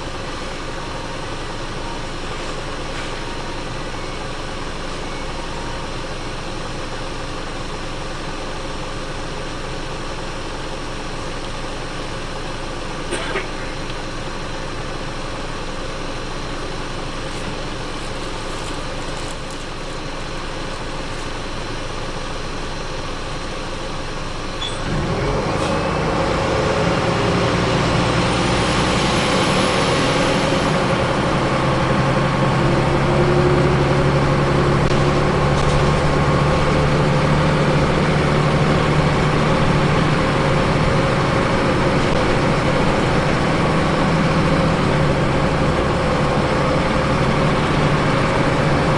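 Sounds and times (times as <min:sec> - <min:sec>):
bus engine with rising whine: 0:00.0 - 0:48.9.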